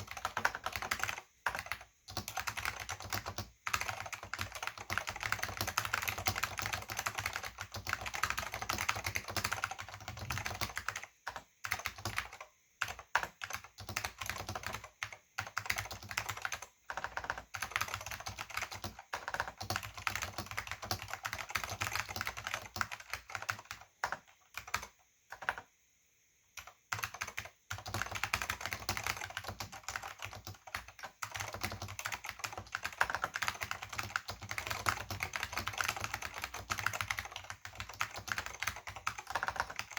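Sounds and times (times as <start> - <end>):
fast keyboard typing clacks: 0.0 - 25.6, 26.6 - 39.9.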